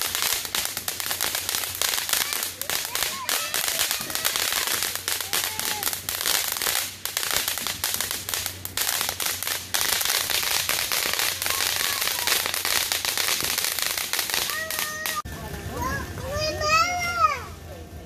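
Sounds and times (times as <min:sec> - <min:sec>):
firework crackling with small pops: 0:00.0 - 0:15.3.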